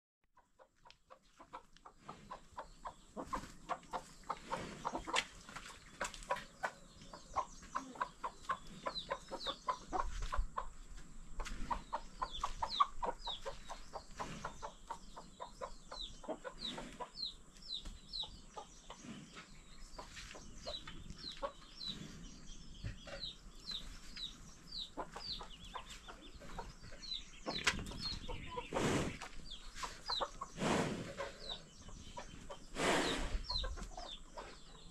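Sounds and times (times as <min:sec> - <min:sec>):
chickens clucking: 0:00.4 - 0:34.9.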